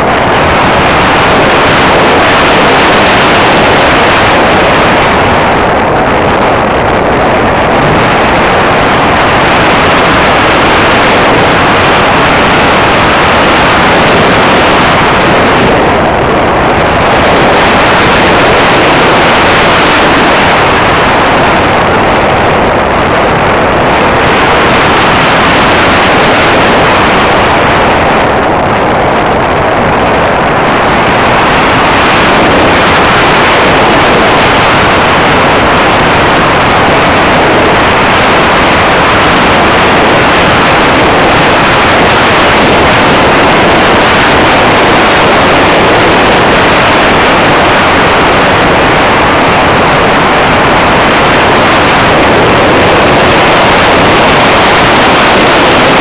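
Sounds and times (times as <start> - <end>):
airflow rush and motor noise: 0.0 - 56.0.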